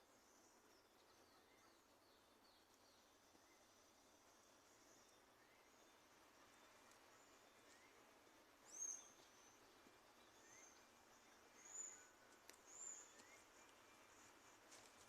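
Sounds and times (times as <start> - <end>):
faint steady hiss: 0.0 - 15.0
small birds chirping: 0.0 - 15.0.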